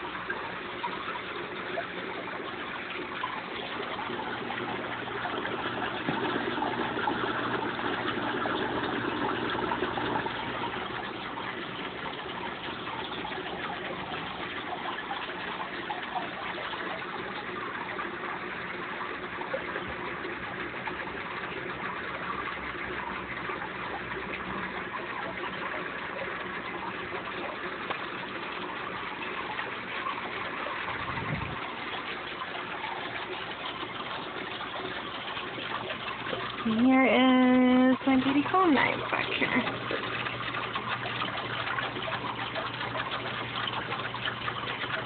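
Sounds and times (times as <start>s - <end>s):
aquarium water running: 0.0s - 45.0s
filter outflow churning water: 0.0s - 45.0s.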